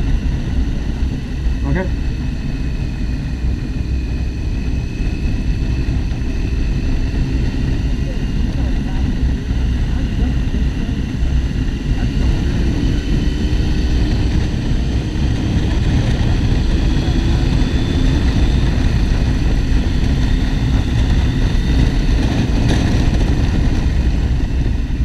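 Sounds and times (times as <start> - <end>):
motorcycle cruising: 0.0 - 25.0
wind rush over microphone: 0.0 - 25.0.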